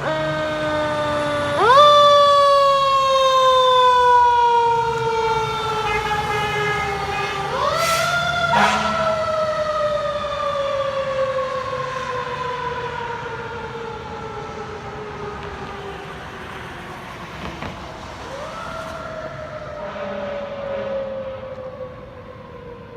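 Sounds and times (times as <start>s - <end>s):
fire truck siren wailing: 0.0s - 22.9s.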